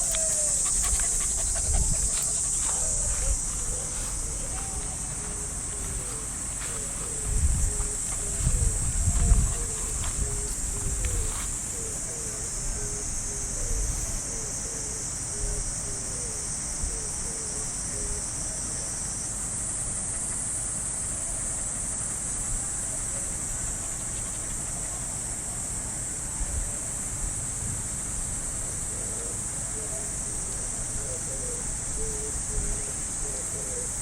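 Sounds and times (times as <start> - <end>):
cicadas shrilling: 0.0 - 34.0.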